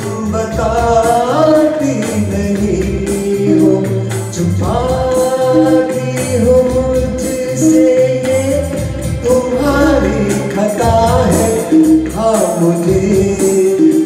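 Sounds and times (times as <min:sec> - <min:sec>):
backing music with bass and beat: 0:00.0 - 0:14.0
man singing into a microphone: 0:00.0 - 0:14.0.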